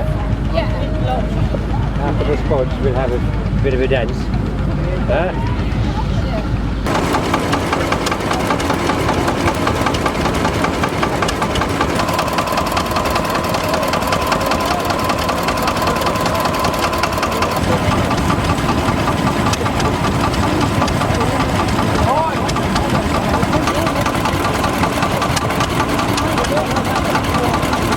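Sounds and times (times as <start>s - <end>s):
engine knocking steadily: 0.0s - 27.9s.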